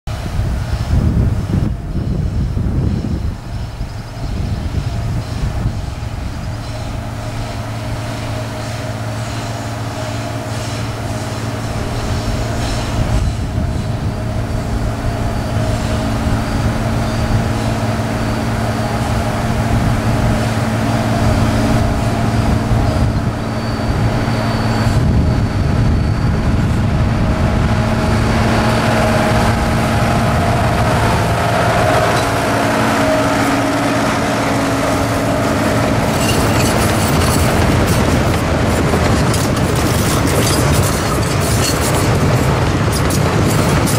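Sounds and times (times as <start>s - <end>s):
diesel locomotive engine: 0.0s - 43.9s
rail cars rolling on track: 0.1s - 43.9s.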